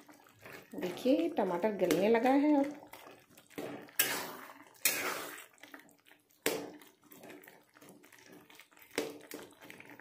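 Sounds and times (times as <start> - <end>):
spatula scraping wet mixture: 0.0 - 10.0.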